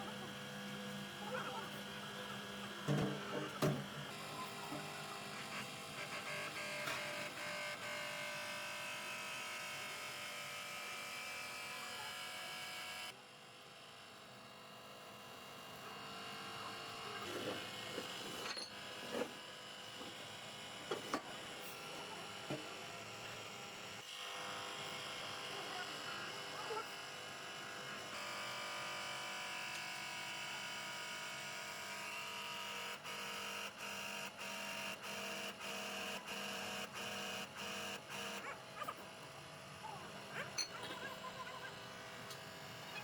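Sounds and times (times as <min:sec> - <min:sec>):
small electric motor whining: 0:00.0 - 0:13.2, 0:15.0 - 0:43.0.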